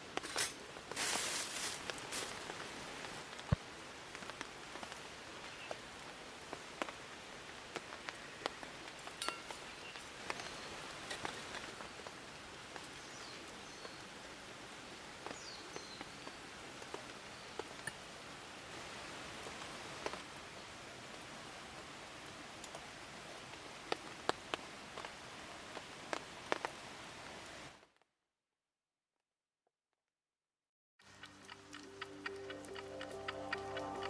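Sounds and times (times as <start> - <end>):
raindrops tapping: 0.0 - 27.6
steady rain falling: 0.0 - 28.0, 31.0 - 34.0.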